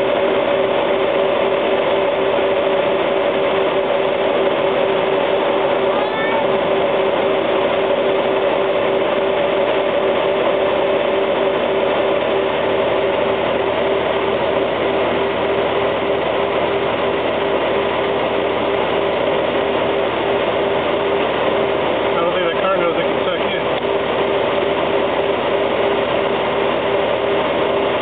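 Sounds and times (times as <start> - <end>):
motorcycle engine hum: 0.0 - 28.0.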